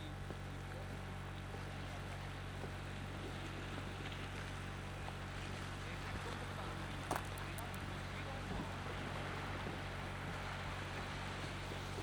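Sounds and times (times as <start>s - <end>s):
faint outdoor background noise: 0.0s - 12.0s
low mechanical hum: 0.0s - 12.0s.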